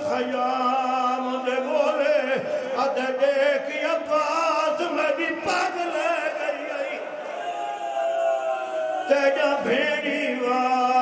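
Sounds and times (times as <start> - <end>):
man chanting mournful verses: 0.0 - 7.3, 9.0 - 11.0.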